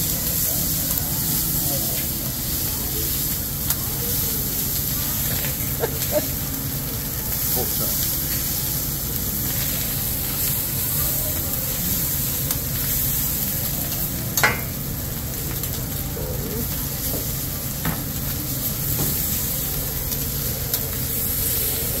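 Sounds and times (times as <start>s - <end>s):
rice sizzling on griddle: 0.0s - 22.0s.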